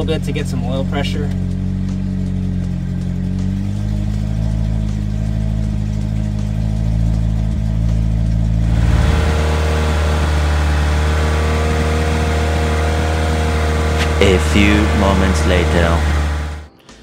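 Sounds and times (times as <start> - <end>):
car engine running at raised speed: 0.0 - 16.7.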